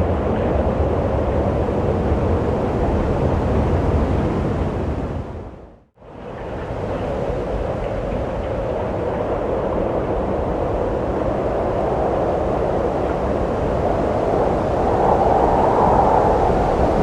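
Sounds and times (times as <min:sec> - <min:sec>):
wind blowing: 0:00.0 - 0:17.0.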